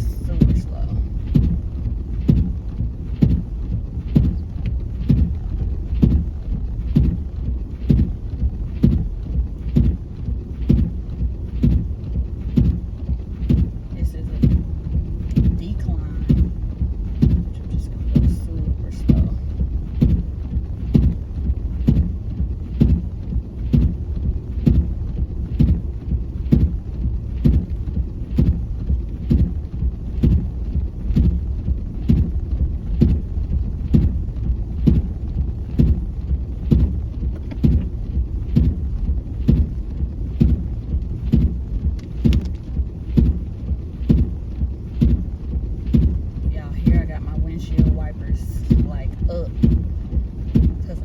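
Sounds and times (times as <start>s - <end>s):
car rumbling on snowy road: 0.0s - 51.0s
windshield wipers knocking: 0.0s - 51.0s.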